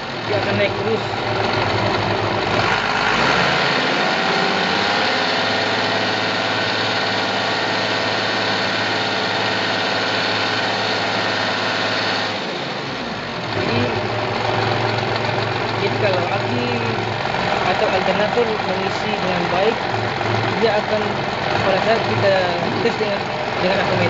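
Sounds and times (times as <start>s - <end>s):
forklift diesel engine revving: 0.0s - 24.0s.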